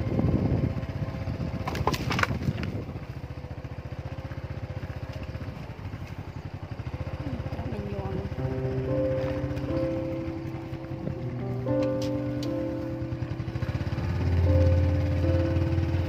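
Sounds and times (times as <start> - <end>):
small motorcycle engine chugging: 0.0 - 16.0.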